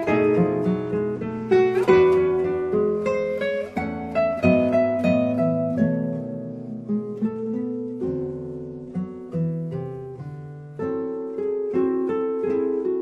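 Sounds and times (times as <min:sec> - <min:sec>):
classical guitars playing: 0:00.0 - 0:13.0.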